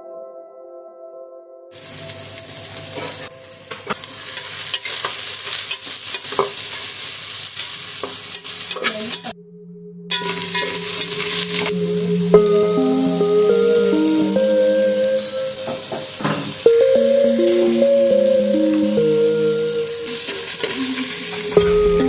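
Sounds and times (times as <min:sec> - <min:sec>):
food sizzling in oil: 0:01.8 - 0:09.4, 0:10.1 - 0:22.0.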